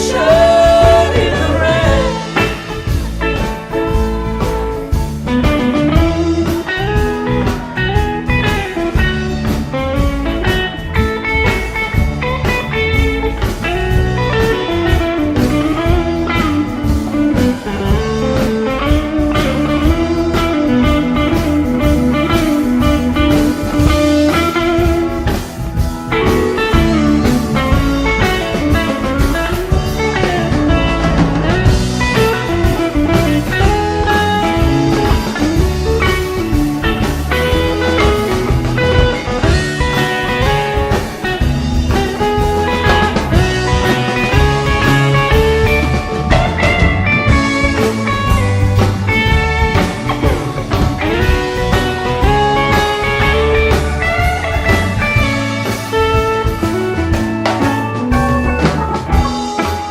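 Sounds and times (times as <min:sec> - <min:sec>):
guitar bending melody: 0:00.0 - 0:59.9
live band playing: 0:00.0 - 0:59.9.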